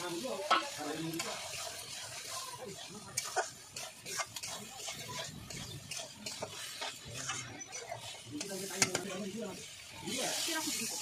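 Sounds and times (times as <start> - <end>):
food frying: 0.0 - 11.0
metal spatula scraping a pan: 0.0 - 11.0.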